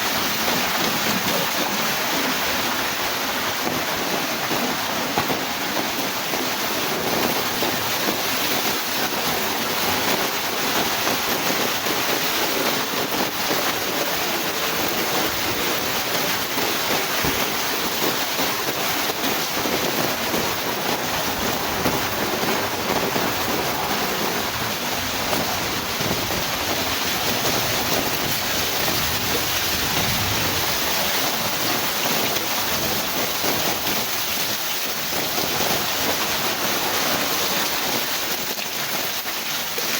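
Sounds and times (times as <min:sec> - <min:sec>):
heavy rain: 0:00.0 - 0:39.9
wind: 0:00.0 - 0:39.9.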